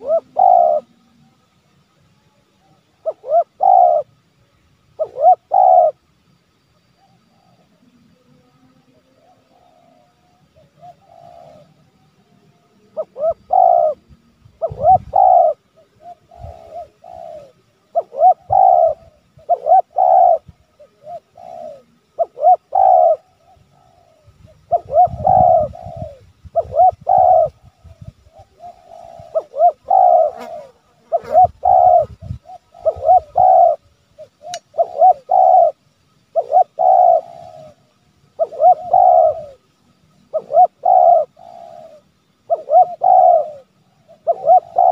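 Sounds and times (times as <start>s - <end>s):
dove cooing: 0.0s - 1.1s, 2.9s - 4.1s, 5.0s - 6.0s, 8.8s - 12.2s, 12.8s - 44.9s.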